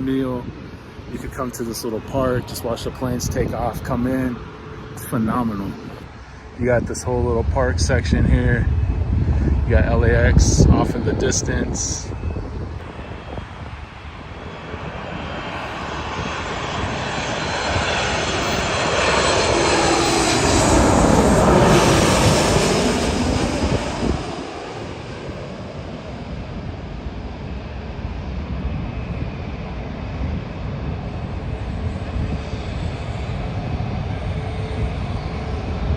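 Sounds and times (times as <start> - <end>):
jet airliner passing overhead: 0.0 - 35.9.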